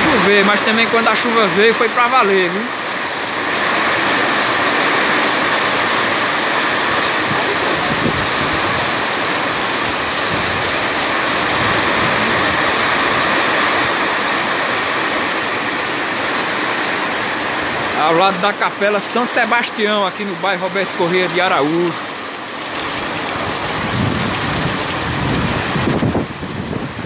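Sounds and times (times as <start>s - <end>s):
heavy rain on street: 0.0s - 27.0s
vehicle passing on wet road: 0.0s - 27.0s.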